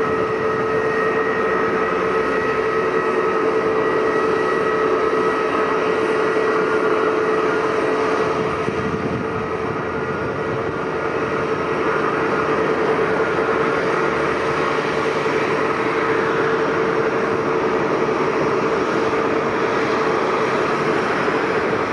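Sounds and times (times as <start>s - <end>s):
aircraft engines whining: 0.0s - 21.9s
broad rushing noise: 0.0s - 21.9s.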